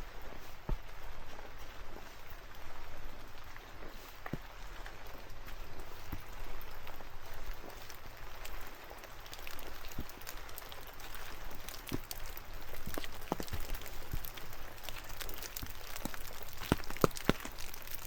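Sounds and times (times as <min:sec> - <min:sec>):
rain falling through trees: 0:00.0 - 0:18.0
raindrops ticking on surfaces: 0:00.0 - 0:18.0.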